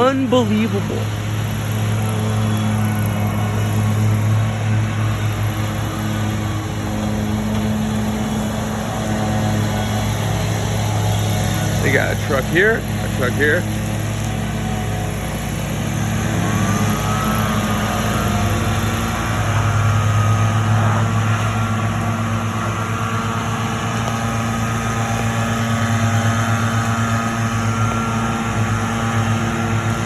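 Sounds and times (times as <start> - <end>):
engine revving up: 0.0 - 30.0
small gasoline engines running: 0.0 - 30.0.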